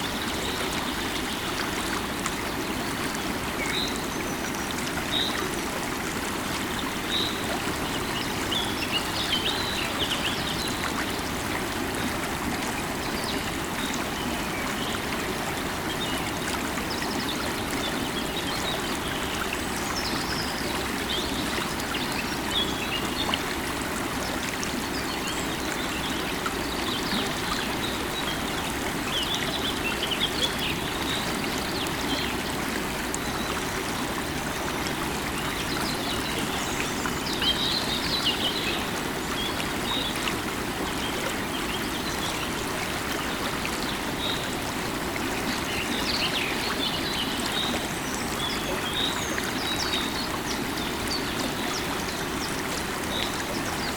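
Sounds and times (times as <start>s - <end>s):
river water running: 0.0s - 53.9s.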